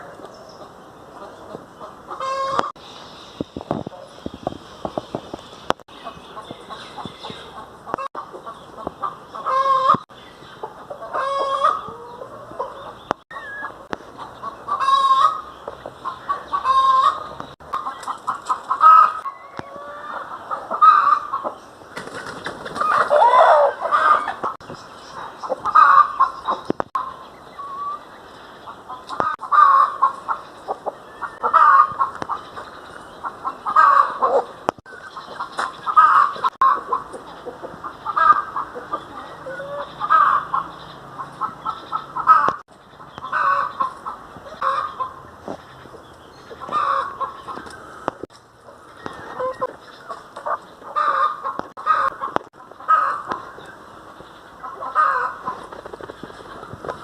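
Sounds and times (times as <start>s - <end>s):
hens clucking: 0.0s - 2.8s, 3.6s - 57.0s.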